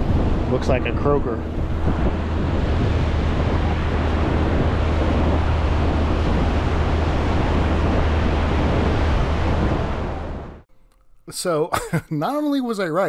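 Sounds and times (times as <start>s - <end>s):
surf breaking on beach: 0.0s - 10.6s
wind buffeting microphone: 0.0s - 10.7s.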